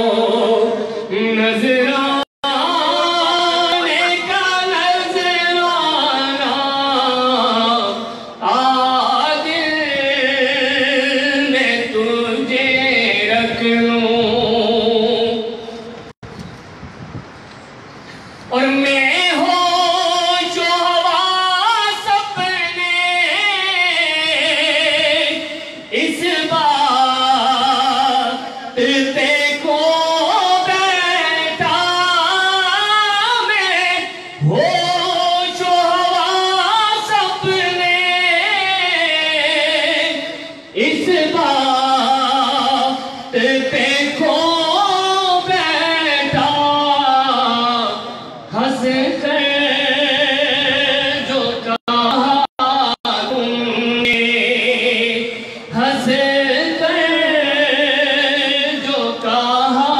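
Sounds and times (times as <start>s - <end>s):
man singing unaccompanied: 0.0s - 16.0s, 18.5s - 59.9s.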